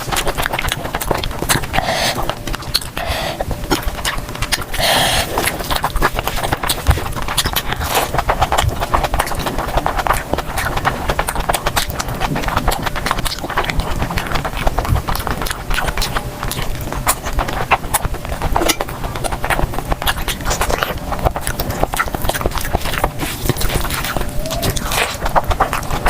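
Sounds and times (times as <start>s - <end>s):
chewing with mouth clicks: 0.0s - 26.0s.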